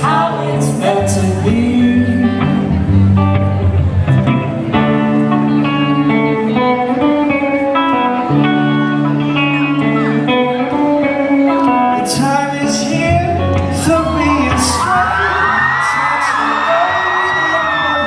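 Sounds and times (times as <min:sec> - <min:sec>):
guitar picking melodic notes: 0:00.0 - 0:18.0
live band music: 0:00.0 - 0:18.0
steady bass: 0:00.0 - 0:18.0.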